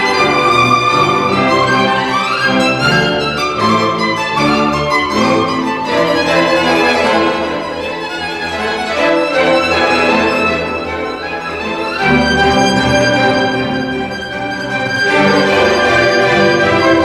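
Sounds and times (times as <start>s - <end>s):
orchestral strings playing chords: 0.0s - 17.0s.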